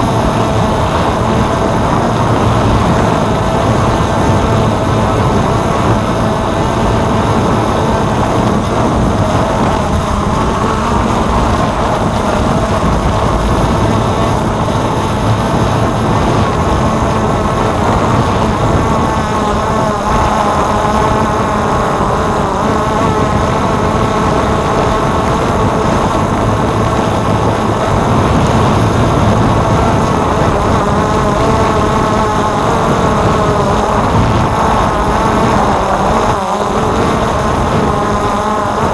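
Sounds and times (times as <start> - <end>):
drone propellers buzzing: 0.0 - 38.9.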